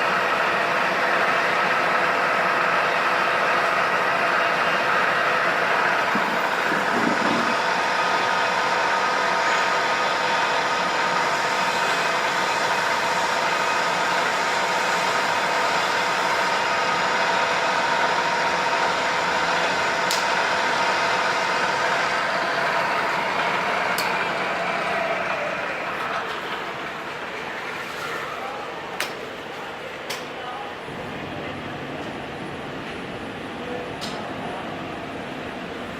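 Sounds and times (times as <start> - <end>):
milling machine whine: 0.0 - 28.9.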